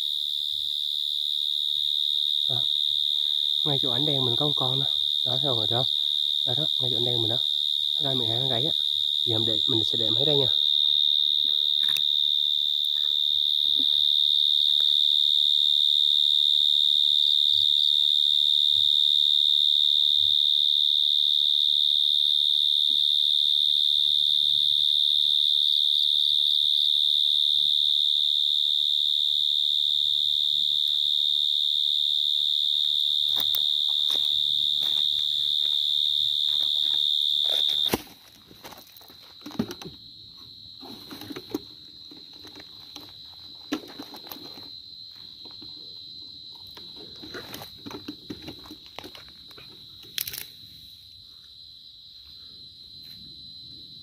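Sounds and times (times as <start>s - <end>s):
cricket loud high trill: 0.0s - 54.0s
faint trill of crickets: 0.0s - 54.0s.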